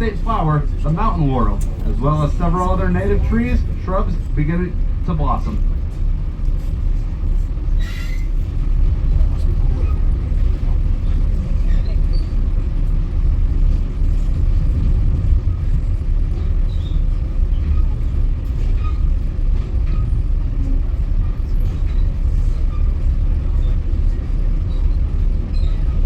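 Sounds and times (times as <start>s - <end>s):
passenger train rumbling: 0.0s - 26.0s.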